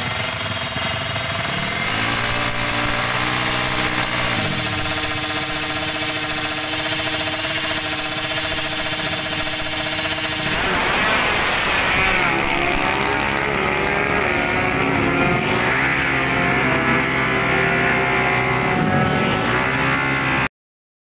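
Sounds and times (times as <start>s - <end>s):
racing motorcycle engines revving: 0.0s - 20.5s.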